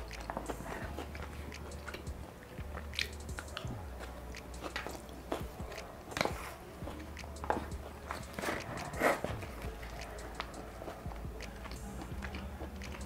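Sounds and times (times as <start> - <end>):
chewing with mouth clicks: 0.0 - 13.0.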